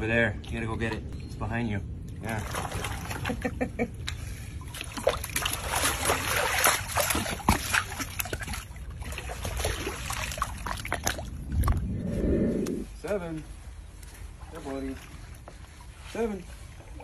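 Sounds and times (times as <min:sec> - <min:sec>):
water splashing and sloshing: 0:01.9 - 0:17.0.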